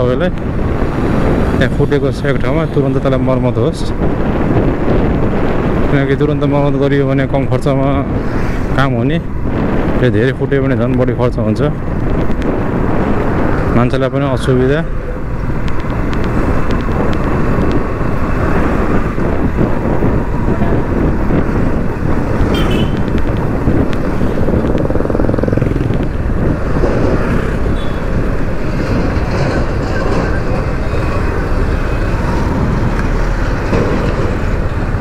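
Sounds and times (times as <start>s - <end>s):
motorcycle riding on road: 0.0s - 35.0s.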